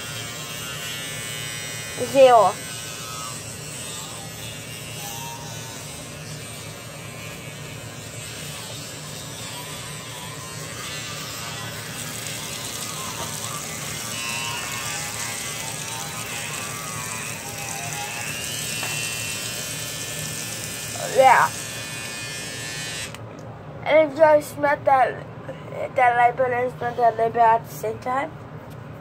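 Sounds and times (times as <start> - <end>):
electric toothbrush buzzing: 0.0 - 23.2.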